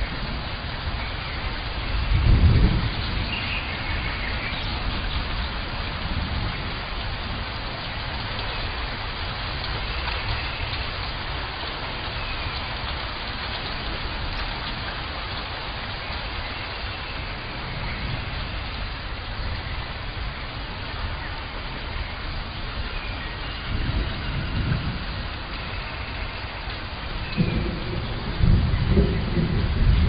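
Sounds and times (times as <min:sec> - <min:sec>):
low rumble of thunder: 0:00.0 - 0:30.0
steady rain falling: 0:00.0 - 0:30.0.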